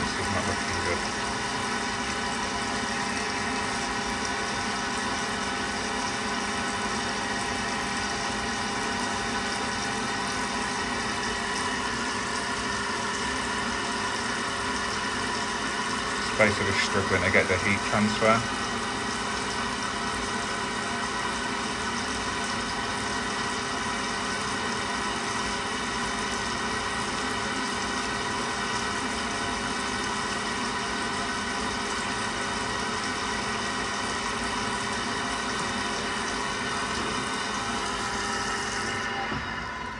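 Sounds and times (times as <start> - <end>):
boiler humming: 0.0 - 39.9.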